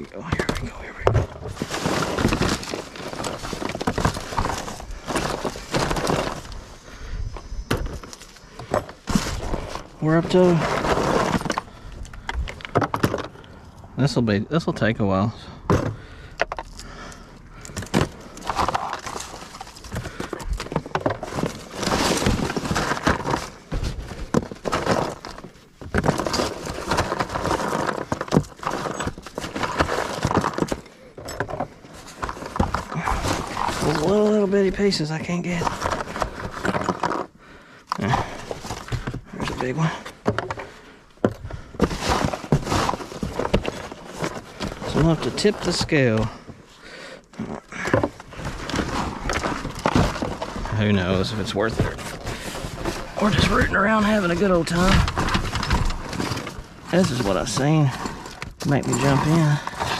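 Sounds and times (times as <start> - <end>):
scrap clattering and crunching: 0.0 - 59.9.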